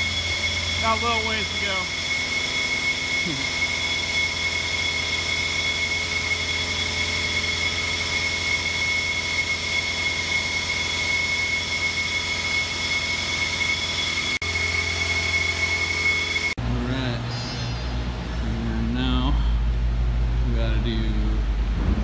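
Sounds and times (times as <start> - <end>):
vacuum truck suction running: 0.0 - 19.8.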